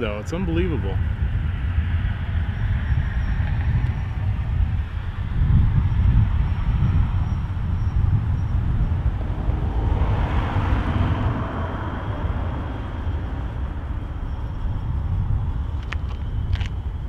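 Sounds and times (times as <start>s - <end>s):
faint high whine: 0.0s - 17.0s
wind buffeting microphone: 0.0s - 17.0s.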